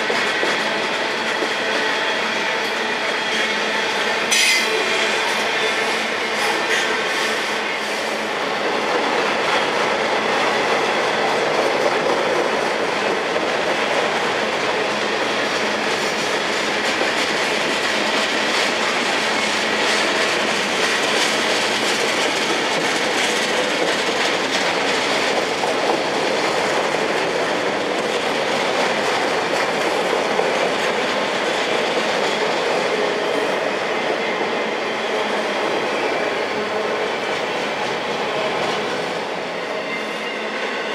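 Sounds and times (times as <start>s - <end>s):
train wheels on track: 0.0s - 40.9s.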